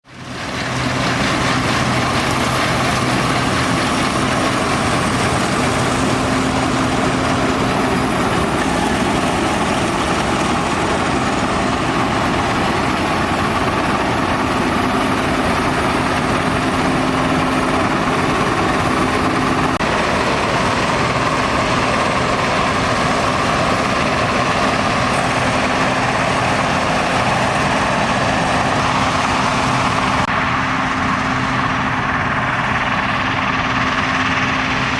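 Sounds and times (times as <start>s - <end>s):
combine harvester mechanical noise: 0.0s - 34.9s
diesel engine hum: 0.0s - 34.9s.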